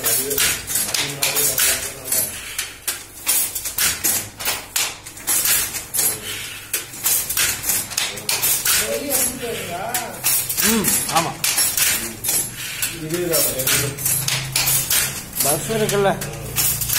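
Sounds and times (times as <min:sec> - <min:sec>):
wooden handloom clacking: 0:00.0 - 0:16.9.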